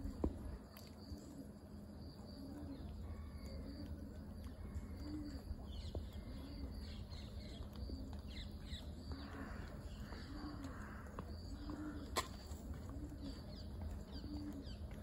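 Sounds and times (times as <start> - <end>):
low outdoor rumble: 0.0 - 15.0
bird low call: 2.2 - 15.0.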